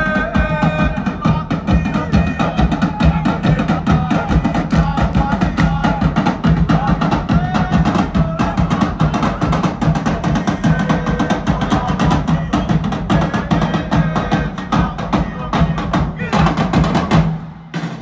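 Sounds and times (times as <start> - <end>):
fast drumming with wooden clicks: 0.0 - 17.3.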